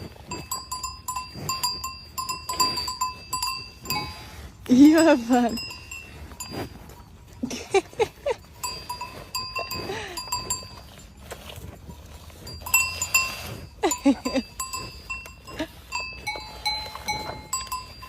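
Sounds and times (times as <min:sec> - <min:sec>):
animal bells clanking: 0:00.0 - 0:18.0.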